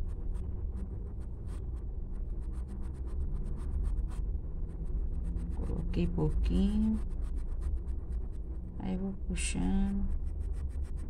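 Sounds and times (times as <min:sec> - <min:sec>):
low steady hum: 0:00.0 - 0:11.0
paintbrush scratching on fabric: 0:00.0 - 0:11.0.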